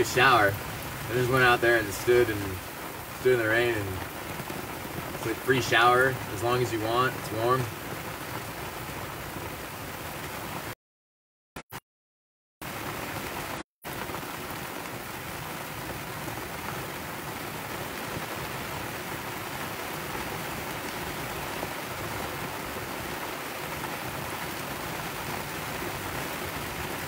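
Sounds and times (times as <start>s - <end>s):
heavy rain pouring: 0.0s - 10.8s, 12.6s - 27.0s.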